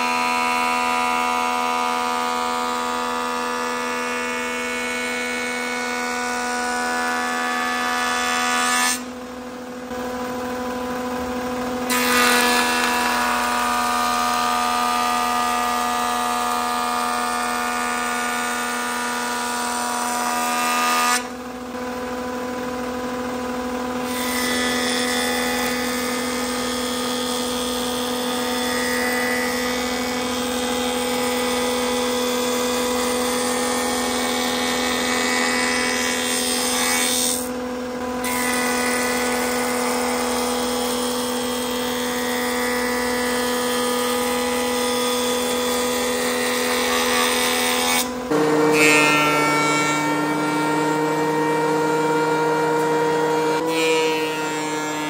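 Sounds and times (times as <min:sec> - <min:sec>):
cutterhead planing board: 0:00.0 - 0:55.0
jointer motor hum: 0:00.0 - 0:55.0.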